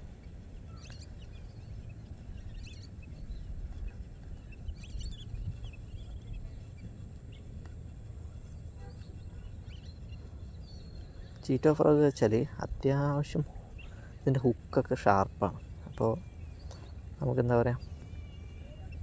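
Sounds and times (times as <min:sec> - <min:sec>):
bird chirps: 0:00.0 - 0:19.0
steady low rumble: 0:00.0 - 0:19.0.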